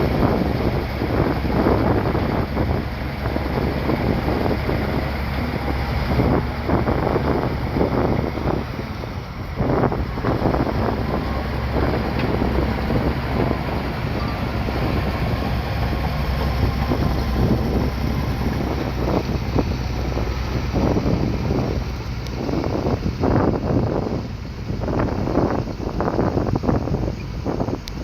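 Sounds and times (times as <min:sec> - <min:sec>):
bulldozer diesel engine running: 0:00.0 - 0:28.0
wind buffeting microphone: 0:00.0 - 0:28.0.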